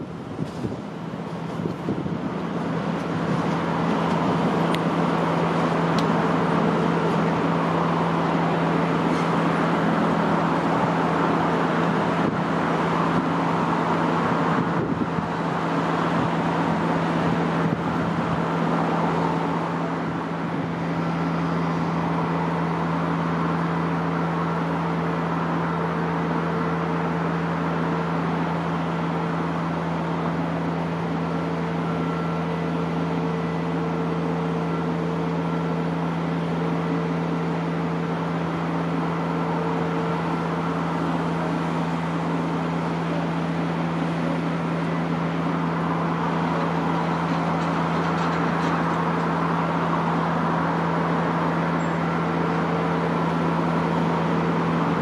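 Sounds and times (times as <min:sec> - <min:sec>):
constant low hum: 0:00.0 - 0:55.0
railway noise: 0:00.0 - 0:55.0
traffic rumble: 0:00.0 - 0:55.0.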